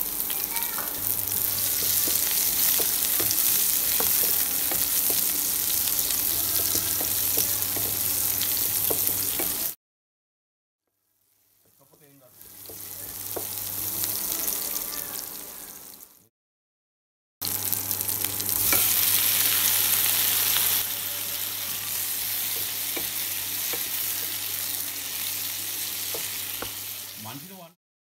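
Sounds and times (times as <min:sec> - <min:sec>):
vegetables sizzling in wok: 0:00.0 - 0:09.8, 0:10.9 - 0:16.3, 0:17.4 - 0:27.7.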